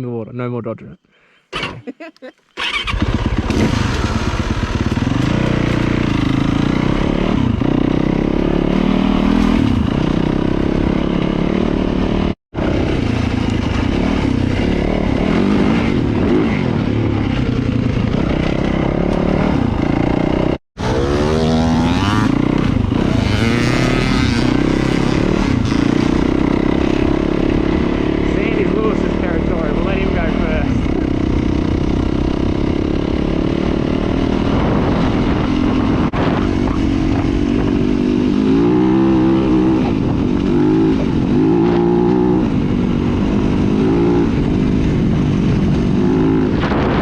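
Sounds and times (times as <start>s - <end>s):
dirt bike engine revving: 2.6s - 47.0s.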